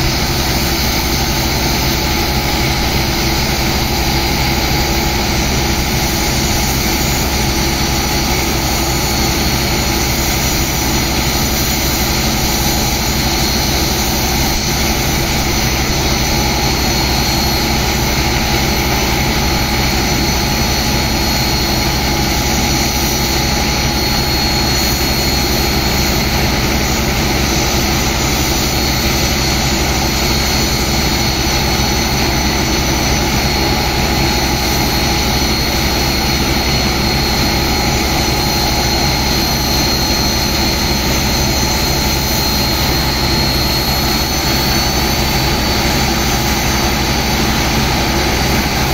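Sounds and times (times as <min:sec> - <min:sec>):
water pump engine running: 0:00.0 - 0:48.9.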